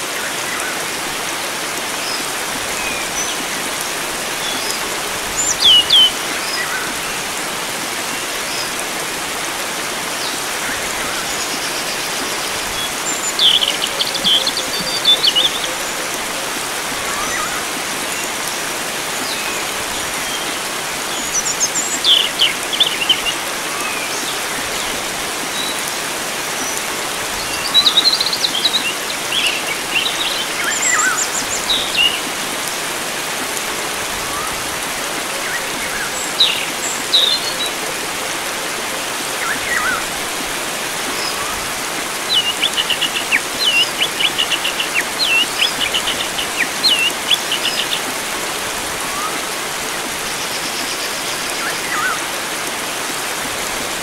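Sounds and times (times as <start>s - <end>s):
flowing water rushing: 0.0s - 54.0s
birds calling and singing: 0.1s - 53.9s.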